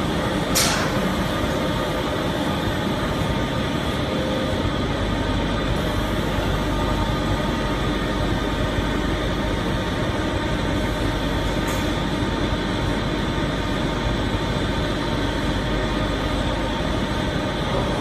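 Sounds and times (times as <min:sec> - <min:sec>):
laminator machine humming: 0:00.0 - 0:18.0.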